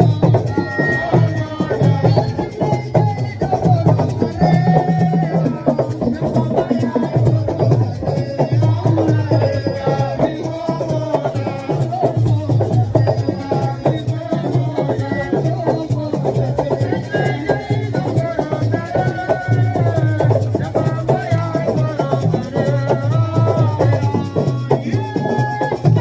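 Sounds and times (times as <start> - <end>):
fast drum rhythm: 0.0 - 26.0
shaken rattle: 0.0 - 26.0
voices singing: 0.0 - 26.0.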